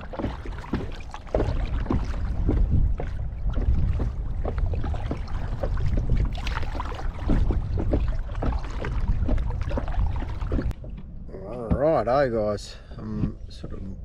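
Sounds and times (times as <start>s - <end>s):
kayak paddle strokes: 0.0s - 11.9s
steady low rumble: 0.0s - 14.0s
water splashing against hull: 0.0s - 14.0s.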